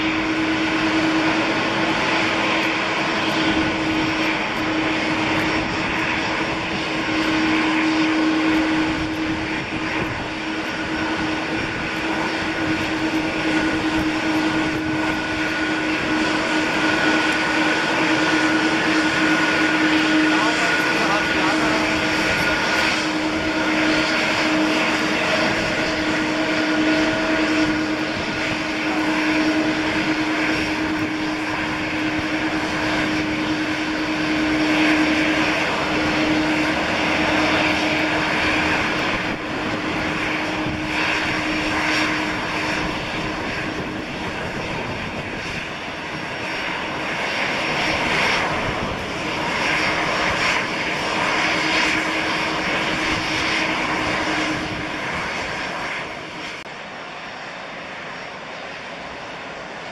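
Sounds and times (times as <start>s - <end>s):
jet engines at taxi power: 0.0s - 59.9s.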